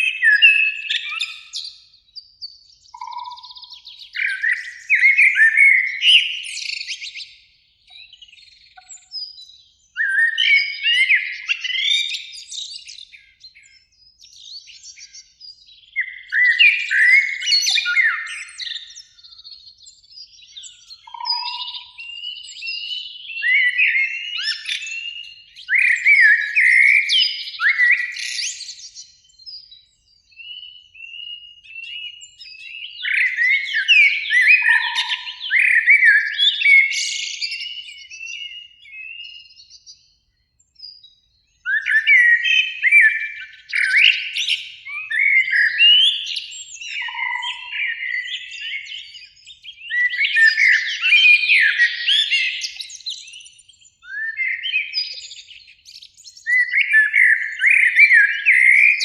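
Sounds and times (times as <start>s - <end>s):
blackbird singing: 0.0s - 59.0s.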